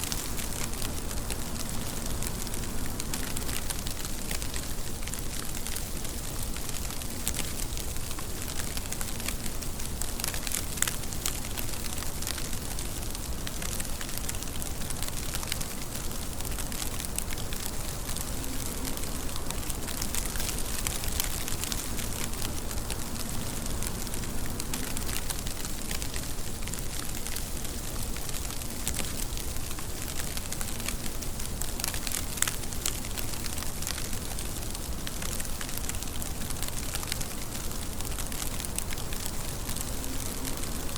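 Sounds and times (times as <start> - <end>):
steady rain pattering: 0.0 - 40.9.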